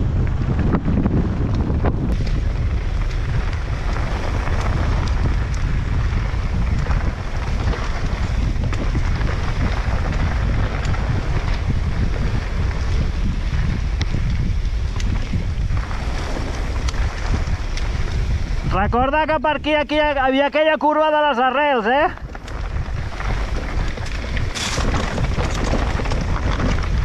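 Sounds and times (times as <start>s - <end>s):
bike clicks and rattles: 0.0s - 18.7s, 21.8s - 27.0s
wind buffeting microphone: 0.0s - 20.6s, 21.6s - 27.0s
tyre and trail rumble: 0.0s - 27.0s.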